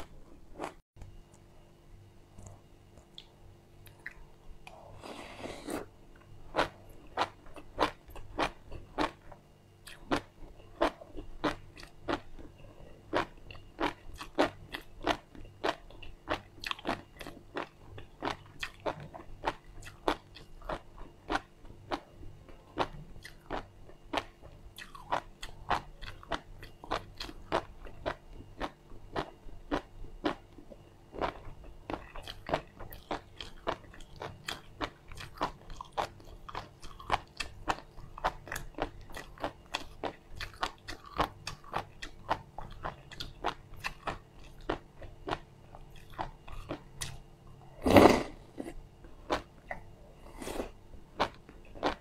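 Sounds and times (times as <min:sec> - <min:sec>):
chewing crunchy seeds: 0:02.3 - 0:47.2, 0:47.8 - 0:52.0.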